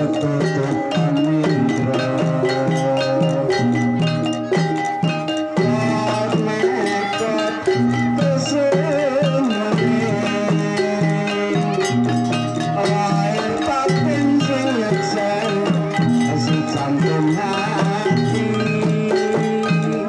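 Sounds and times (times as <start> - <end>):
man singing into microphone: 0.0 - 4.5, 5.5 - 20.0
barrel drum: 0.0 - 20.0
ringing pitched percussion: 0.0 - 20.0.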